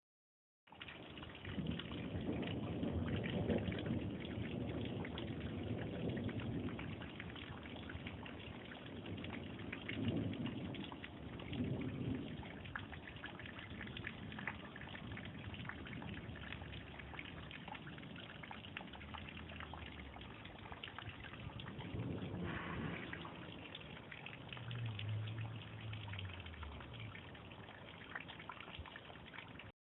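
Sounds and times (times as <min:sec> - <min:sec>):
steady rain: 0:00.7 - 0:29.7
thunder rumbling: 0:01.3 - 0:27.8.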